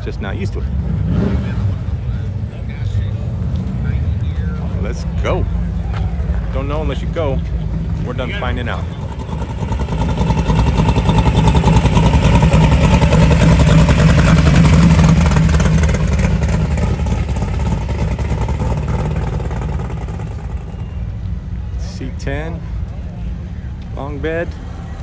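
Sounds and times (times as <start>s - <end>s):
car engine passing by: 0.0s - 21.8s.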